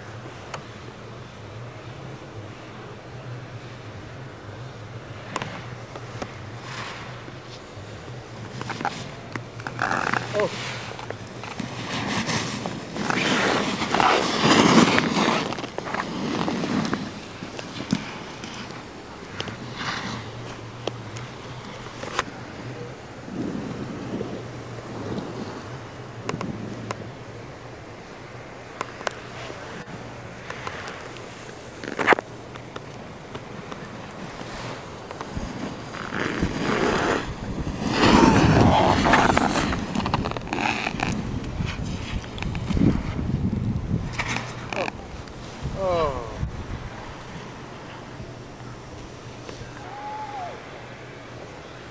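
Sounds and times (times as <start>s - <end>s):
snowboard carving on snow: 1.8s - 51.9s.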